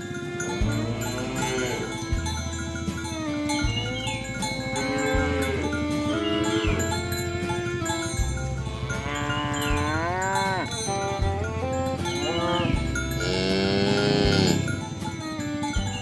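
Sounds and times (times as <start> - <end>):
background music: 0.0 - 16.0
cows mooing: 0.0 - 16.0.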